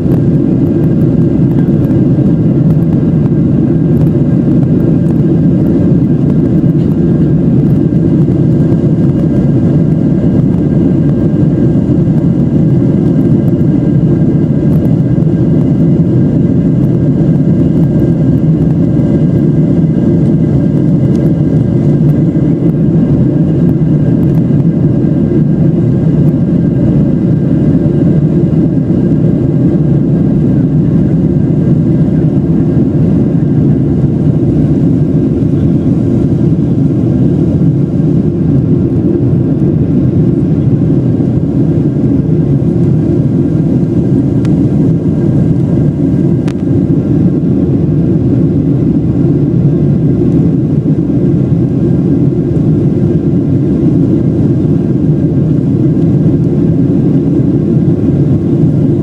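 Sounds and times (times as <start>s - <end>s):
faint engine whine: 0.0s - 59.0s
jet engine rumble: 0.0s - 59.0s.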